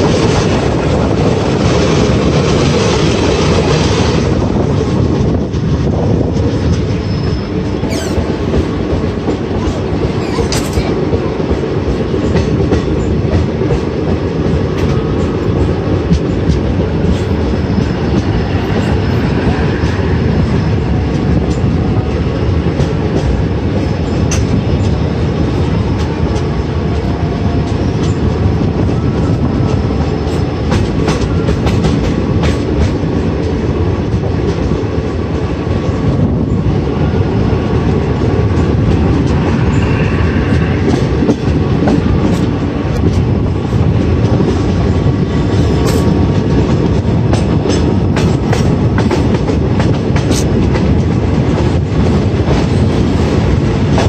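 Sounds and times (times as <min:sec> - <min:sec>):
clickety-clack over rail joints: 0:00.0 - 0:54.0
train wheels rumbling on rails: 0:00.0 - 0:54.0.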